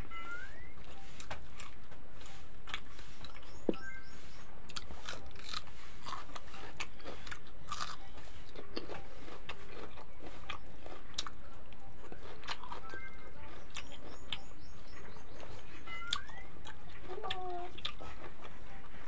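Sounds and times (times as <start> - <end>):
low background hum: 0.0 - 19.0
chewing with mouth clicks: 0.8 - 19.0.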